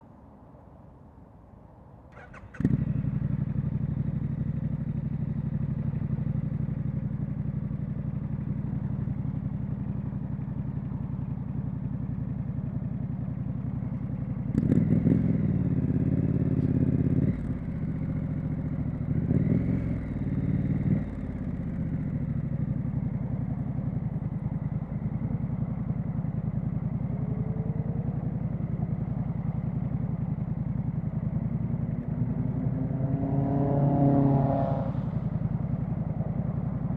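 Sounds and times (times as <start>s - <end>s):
motorcycle engine idling and revving: 2.1s - 36.9s.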